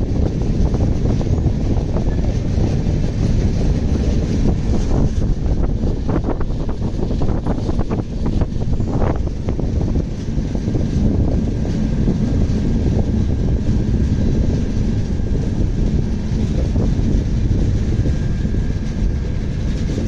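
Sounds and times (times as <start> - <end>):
moving vehicle rumble: 0.0 - 20.0.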